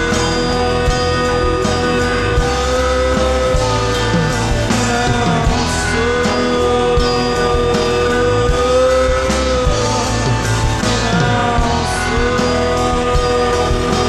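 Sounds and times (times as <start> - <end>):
drum kit with cymbals: 0.0 - 14.0
steady bass: 0.0 - 14.0.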